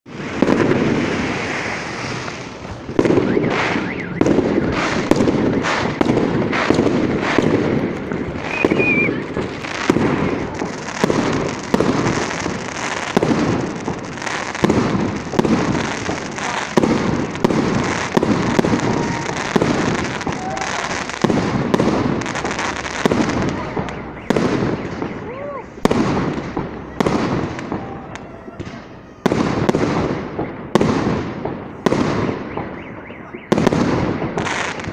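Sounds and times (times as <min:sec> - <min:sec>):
crackling rumbling tail: 0:00.1 - 0:34.9
fireworks bursting: 0:00.1 - 0:34.9.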